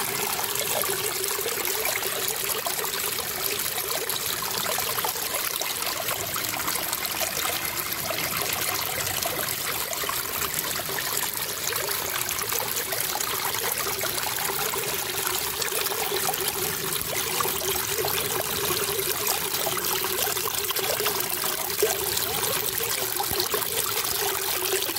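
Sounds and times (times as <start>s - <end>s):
water pouring over rocks: 0.0s - 24.9s.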